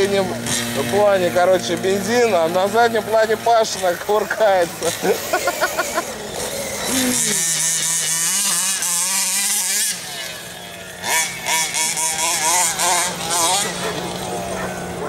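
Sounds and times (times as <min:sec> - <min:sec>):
rc truck engine running: 0:00.0 - 0:15.0.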